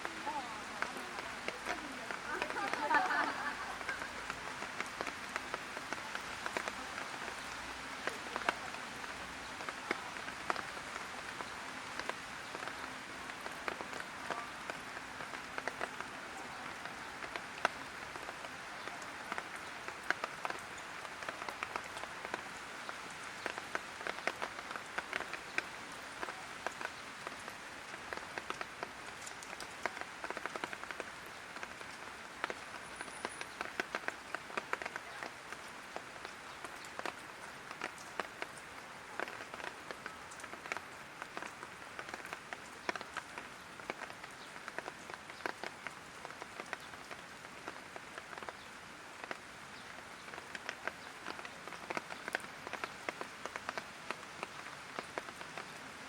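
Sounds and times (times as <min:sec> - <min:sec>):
light rain hissing: 0:00.0 - 0:56.0
raindrops tapping on hard surface: 0:00.0 - 0:56.0.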